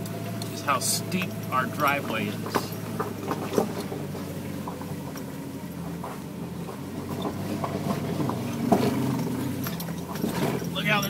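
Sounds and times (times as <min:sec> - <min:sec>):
engine running in low gear: 0:00.0 - 0:11.0.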